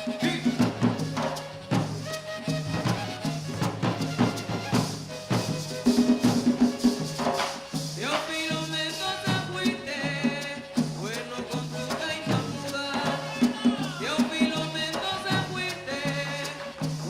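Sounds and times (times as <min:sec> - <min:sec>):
drums and maraca rhythm: 0:00.0 - 0:17.0
flutes playing sliding melody: 0:00.0 - 0:17.0.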